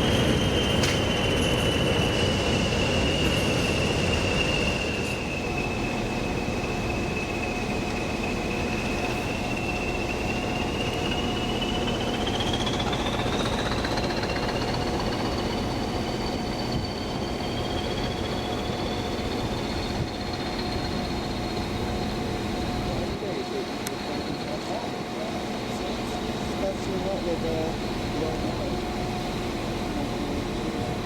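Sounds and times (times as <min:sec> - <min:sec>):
train high whine: 0:00.0 - 0:31.0.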